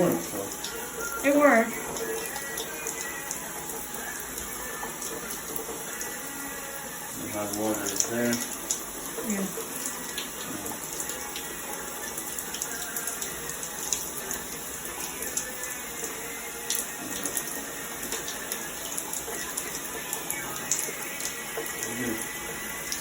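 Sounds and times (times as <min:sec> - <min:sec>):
water running from tap: 0:00.0 - 0:23.0.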